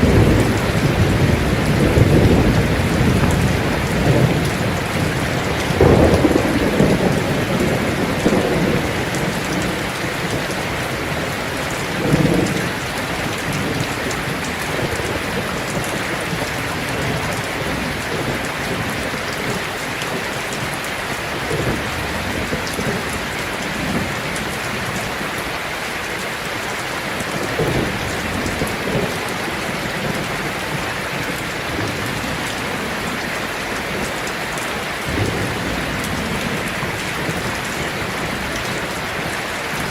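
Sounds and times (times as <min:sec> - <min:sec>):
low thunder rumbles: 0:00.0 - 0:25.4, 0:27.1 - 0:39.9
heavy rain on a tin roof: 0:00.0 - 0:39.9.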